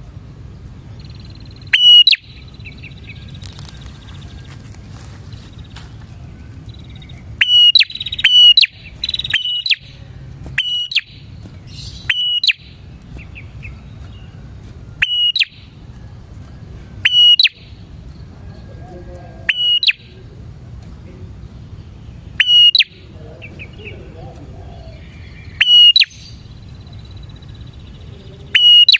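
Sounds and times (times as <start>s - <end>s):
low hum: 0.0s - 28.6s
bird chattering: 0.9s - 14.4s, 15.0s - 15.9s, 17.0s - 28.9s
bird calling sharp notes: 0.9s - 16.1s, 16.8s - 28.9s.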